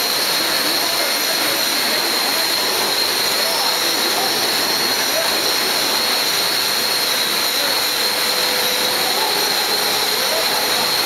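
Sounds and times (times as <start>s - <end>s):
high machine whine: 0.0s - 11.0s
plant hiss and roar: 0.0s - 11.0s.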